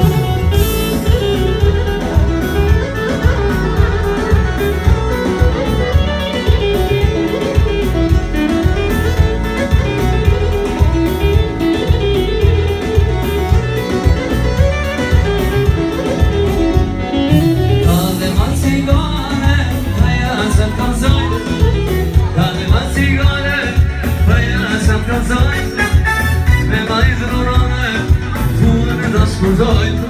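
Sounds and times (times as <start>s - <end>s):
live band playing instrumental: 0.0s - 30.0s.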